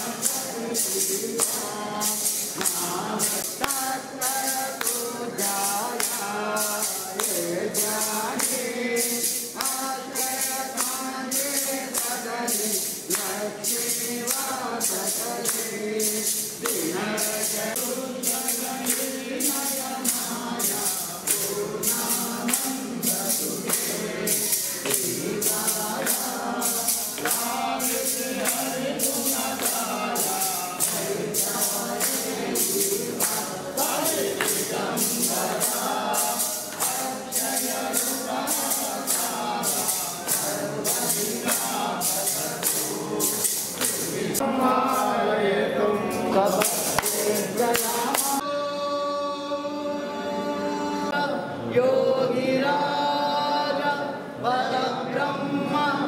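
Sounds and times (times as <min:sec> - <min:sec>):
steady percussive beat: 0:00.0 - 0:45.2, 0:46.0 - 0:48.4
group singing a hymn: 0:00.0 - 0:56.0.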